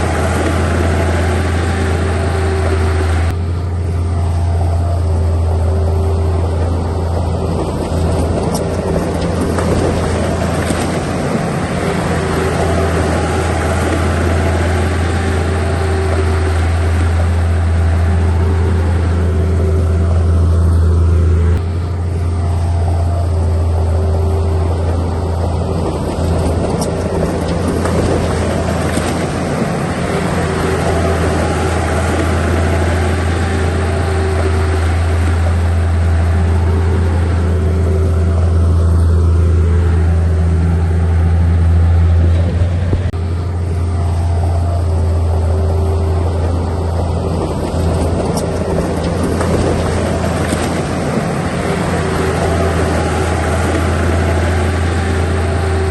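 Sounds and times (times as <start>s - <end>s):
diesel engine drone: 0.0s - 55.9s.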